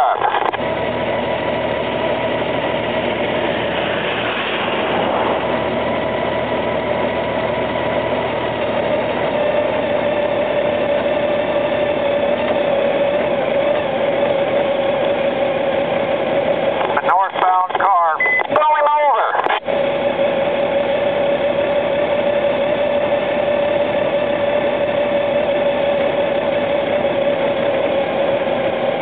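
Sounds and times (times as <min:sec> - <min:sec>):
motorcycle engine humming: 0:00.6 - 0:17.0, 0:19.7 - 0:29.0.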